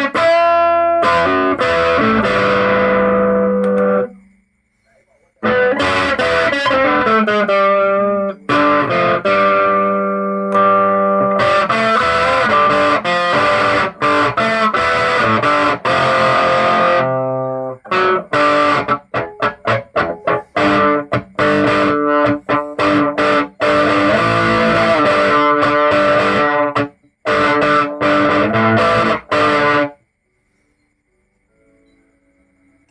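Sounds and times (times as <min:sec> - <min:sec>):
distorted electric guitar chords: 0:00.0 - 0:04.3, 0:05.4 - 0:30.0.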